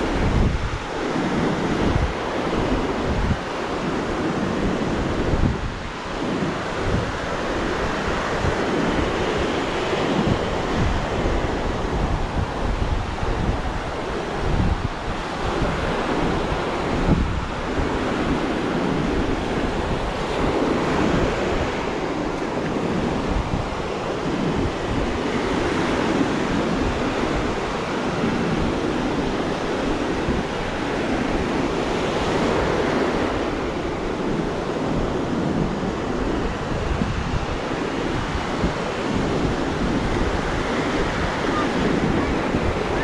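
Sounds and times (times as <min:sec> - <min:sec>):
ocean waves washing ashore: 0:00.0 - 0:43.0
wind buffeting microphone: 0:00.0 - 0:43.0.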